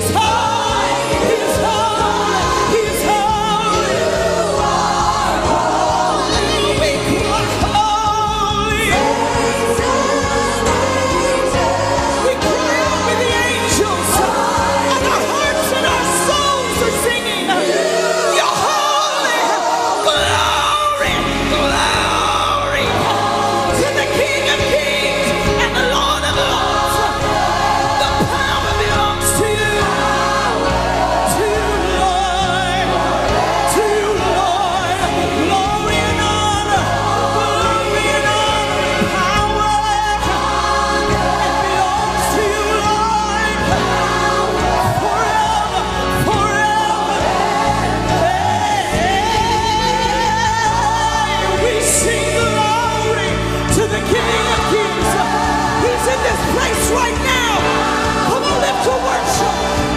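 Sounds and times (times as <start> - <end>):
band with keyboard: 0.0 - 59.9
singers and choir singing: 0.0 - 59.9.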